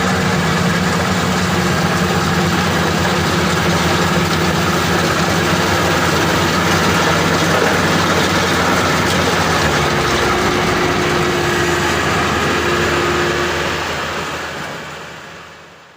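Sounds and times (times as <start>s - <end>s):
combine harvester engine hum: 0.0s - 15.9s.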